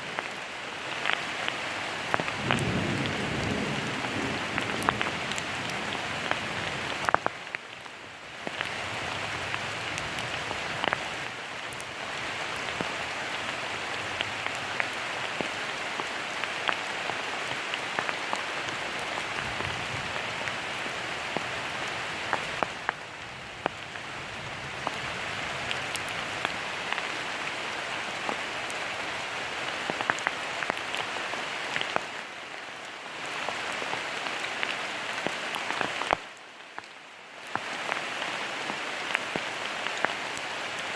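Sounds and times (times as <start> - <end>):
raindrops striking close by: 0.0 - 40.9
steady rain falling: 0.0 - 40.9.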